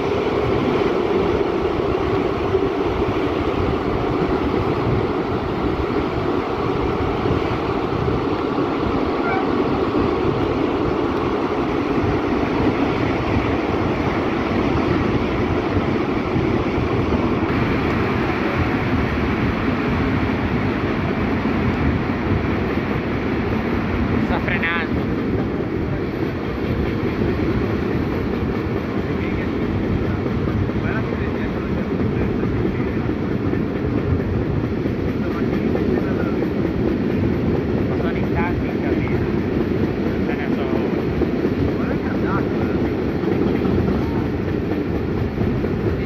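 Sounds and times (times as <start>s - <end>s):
train carriages rumbling and rattling: 0.0s - 46.0s.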